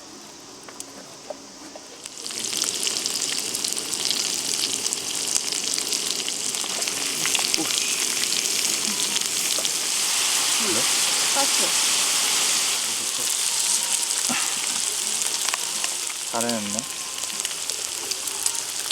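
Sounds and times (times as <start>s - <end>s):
vegetables sizzling in hot oil: 2.0s - 18.9s.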